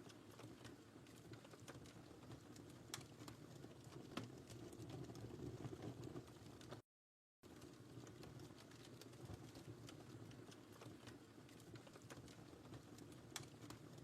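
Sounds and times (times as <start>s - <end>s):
wood fire crackling: 0.0s - 6.8s, 7.4s - 14.0s.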